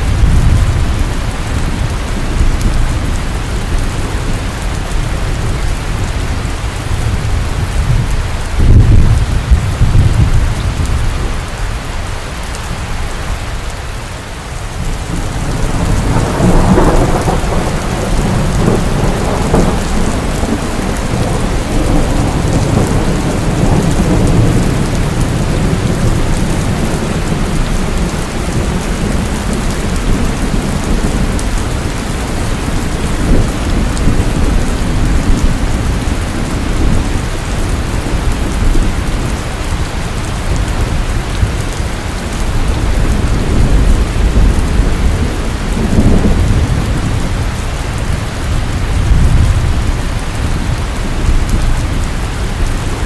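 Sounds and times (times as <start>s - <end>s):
steady rain: 0.0s - 53.0s
thunder rumbling: 0.0s - 53.0s.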